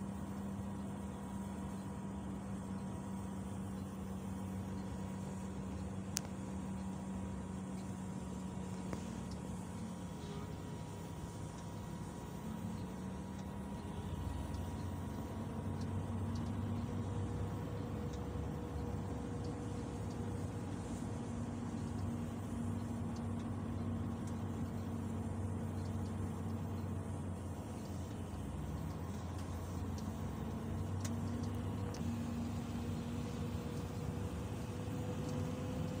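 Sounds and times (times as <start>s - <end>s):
vehicle hum from inside cabin: 0.0s - 36.0s
faint ticks: 0.2s - 36.0s.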